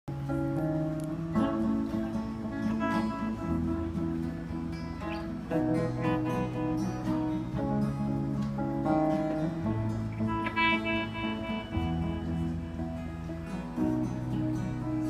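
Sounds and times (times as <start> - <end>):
guitar playing chords: 0.1 - 15.0.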